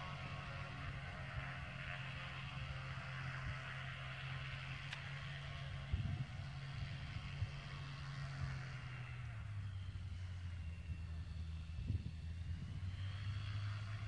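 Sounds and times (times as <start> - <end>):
aircraft engine droning: 0.0 - 14.0.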